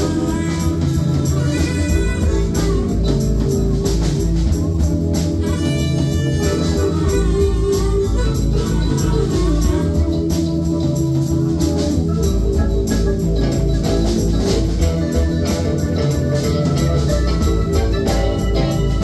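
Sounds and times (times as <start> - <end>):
bass guitar: 0.0 - 19.0
drum beat with cymbals: 0.0 - 19.0
electric guitars: 0.0 - 19.0
organ-style keyboard: 0.0 - 19.0.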